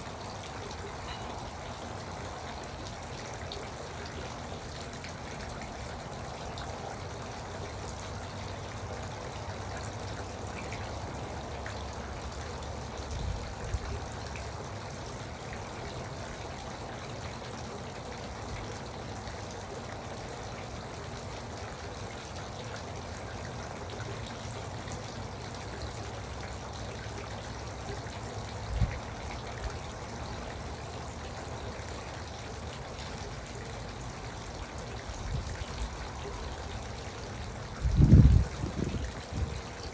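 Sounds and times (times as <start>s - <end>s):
fountain water trickling and splashing: 0.0s - 39.9s.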